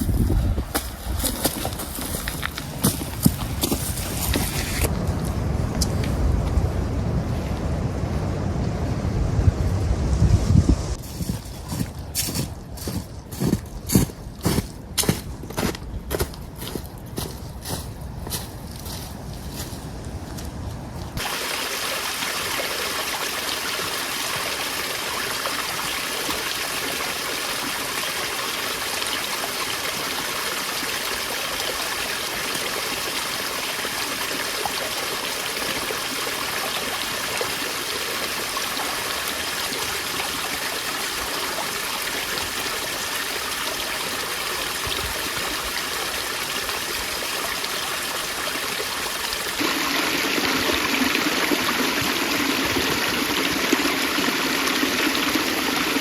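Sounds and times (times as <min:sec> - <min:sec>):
stream of running water: 0:00.0 - 0:13.0, 0:21.0 - 0:56.0.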